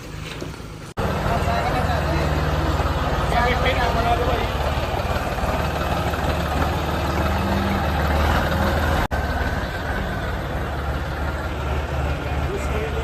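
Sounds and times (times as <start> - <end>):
diesel tractor engine idling: 1.0 - 13.0.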